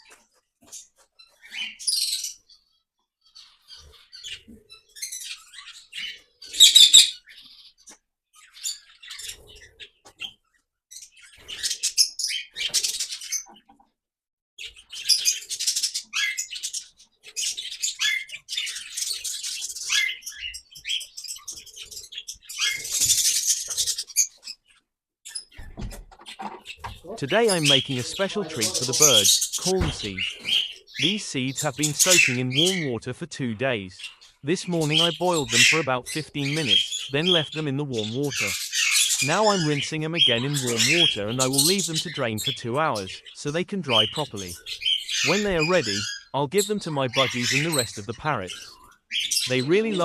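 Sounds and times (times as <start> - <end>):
parrots chirping and chattering: 0.0 - 13.8, 14.6 - 50.0.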